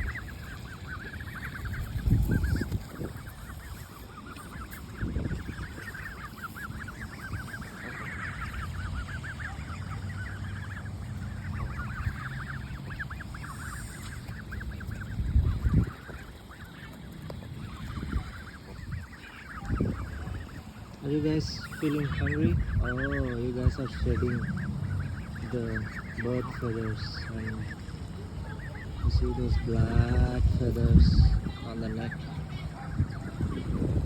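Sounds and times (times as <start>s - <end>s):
geese and ducks calling: 0.0s - 34.0s.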